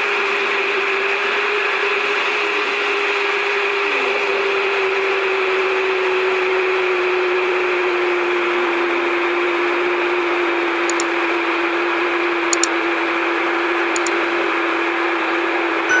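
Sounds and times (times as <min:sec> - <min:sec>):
jet engine drone: 0:00.0 - 0:16.0.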